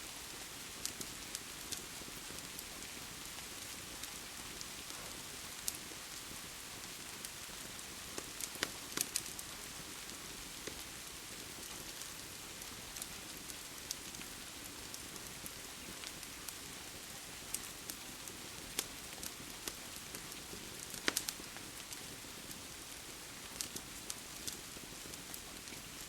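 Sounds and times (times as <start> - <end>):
steady rain: 0.0 - 26.0
wood fire crackling: 0.1 - 26.0.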